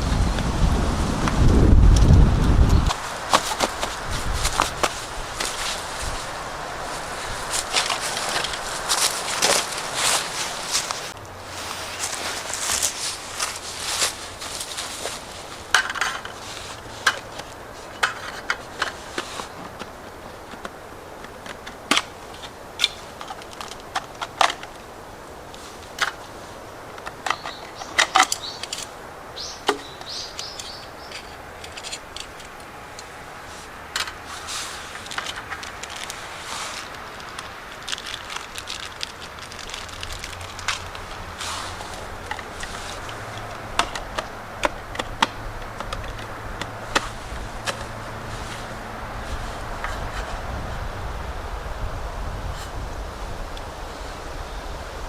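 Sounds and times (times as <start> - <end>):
low steady background noise: 0.0 - 55.0.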